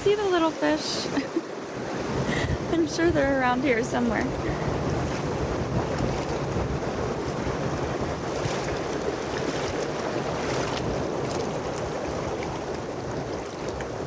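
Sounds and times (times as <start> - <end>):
small waves washing ashore: 0.0 - 14.0
wind buffeting microphone: 0.0 - 14.0.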